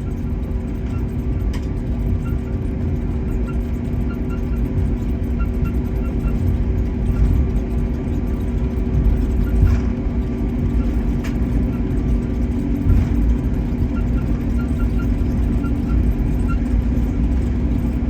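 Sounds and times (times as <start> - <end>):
airplane cabin rumble and hum: 0.0 - 18.0.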